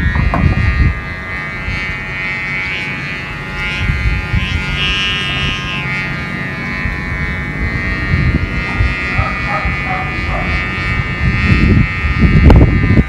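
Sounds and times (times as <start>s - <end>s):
kite hummer buzzing drone: 0.0s - 13.0s.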